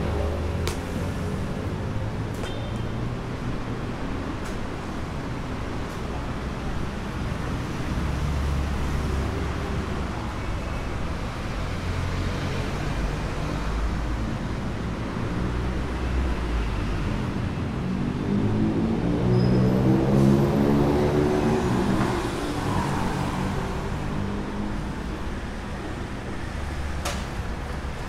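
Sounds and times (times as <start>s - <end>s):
vehicle engines rumbling: 0.0s - 28.0s.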